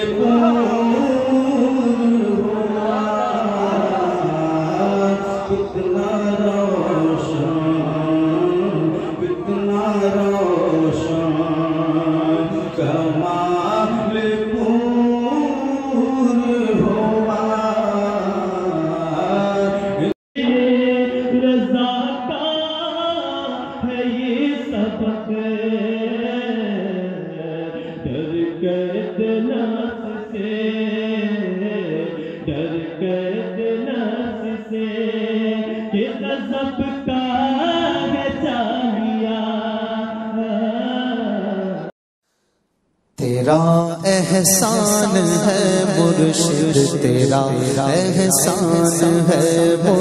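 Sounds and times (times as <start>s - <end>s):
man chanting devotional verse: 0.0s - 41.9s, 43.2s - 50.0s.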